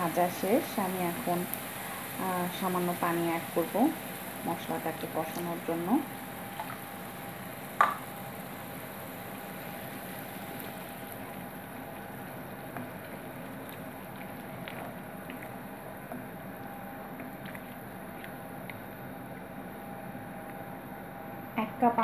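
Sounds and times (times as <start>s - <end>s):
paste bubbling and sizzling in pan: 0.0s - 20.4s
faint steady hum: 0.0s - 22.0s.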